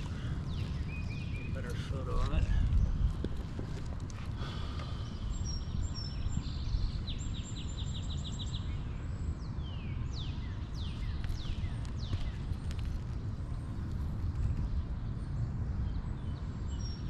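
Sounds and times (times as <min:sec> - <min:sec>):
songbird singing: 0:00.0 - 0:17.0
wind rumble on microphone: 0:00.0 - 0:17.0.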